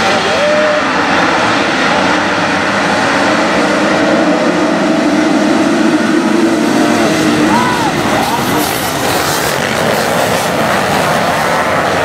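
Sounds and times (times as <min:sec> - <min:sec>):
motocross bikes accelerating: 0:00.0 - 0:12.0.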